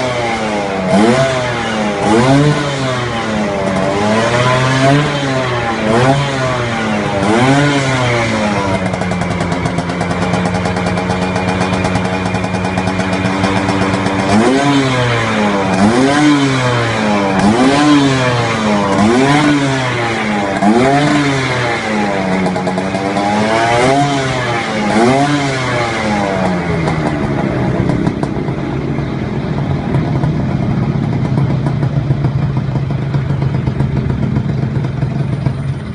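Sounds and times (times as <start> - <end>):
scooter engine revving: 0.0 - 35.9.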